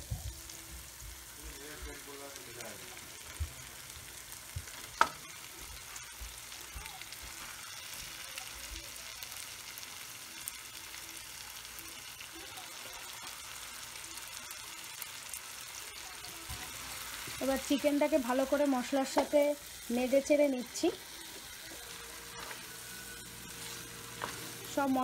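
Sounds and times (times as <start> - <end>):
oil sizzling in a frying pan: 0.0 - 25.0.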